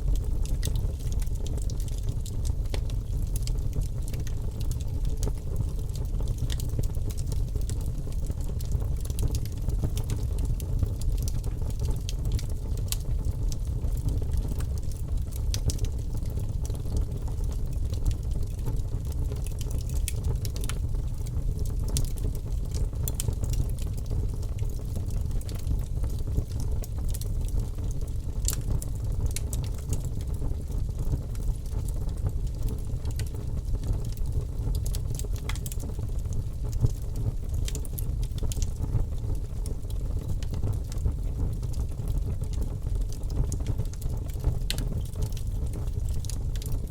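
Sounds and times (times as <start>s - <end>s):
fire crackling and popping: 0.0s - 46.9s
low rumble of fire: 0.0s - 46.9s.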